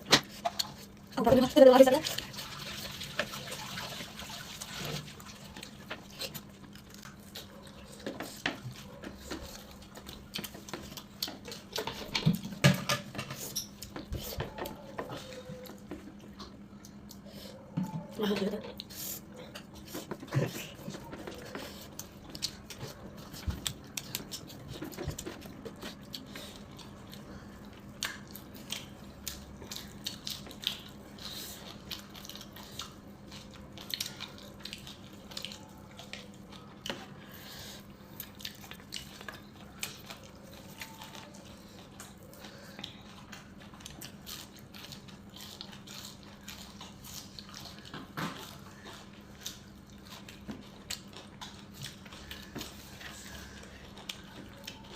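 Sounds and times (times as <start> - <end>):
wet chewing: 0.0 - 54.9.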